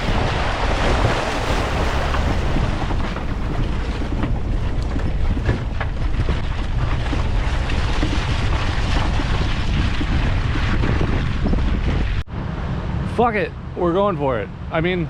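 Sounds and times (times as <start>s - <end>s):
wind buffeting microphone: 0.0s - 13.1s
engine and tyres rumbling: 0.0s - 15.0s.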